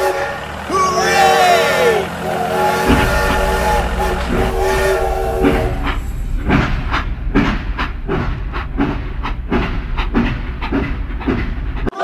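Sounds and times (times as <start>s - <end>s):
steam locomotive chugging: 0.0s - 12.0s.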